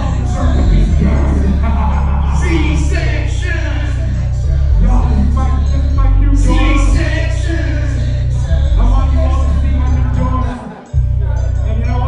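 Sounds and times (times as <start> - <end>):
hip-hop beat with heavy bass: 0.0 - 12.0.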